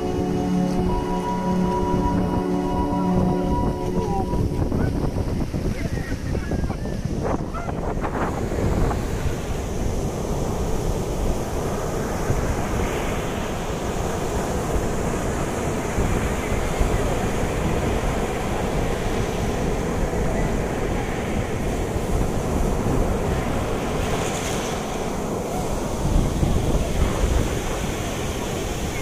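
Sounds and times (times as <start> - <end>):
ocean surf on beach: 0.0 - 29.0
wind buffeting microphone: 0.0 - 29.0.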